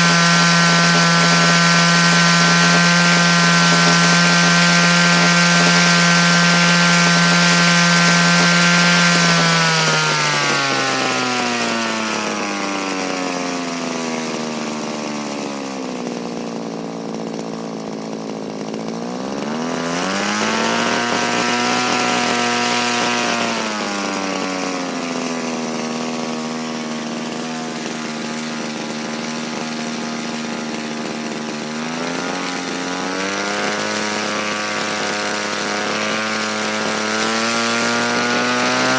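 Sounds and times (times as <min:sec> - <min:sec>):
rc helicopter petrol engine revving: 0:00.0 - 0:38.9.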